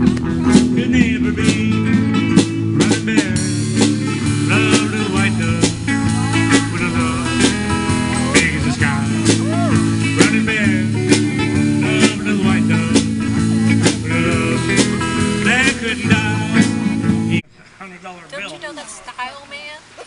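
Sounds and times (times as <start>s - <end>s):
drum kit beat: 0.0s - 17.4s
electric guitar lead: 0.0s - 17.4s.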